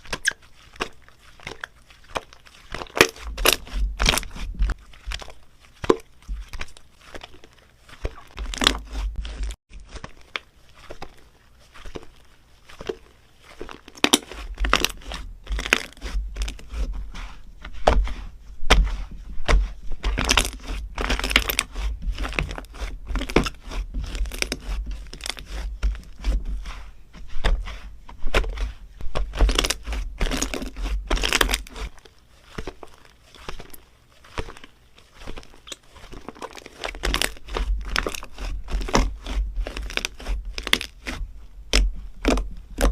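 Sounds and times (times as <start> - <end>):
slime squished by hand: 0.0 - 42.9.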